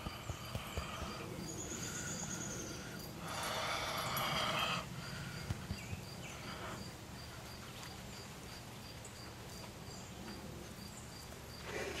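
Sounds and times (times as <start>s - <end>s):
faint outdoor background noise: 0.0s - 12.0s
insect chirping: 0.0s - 12.0s.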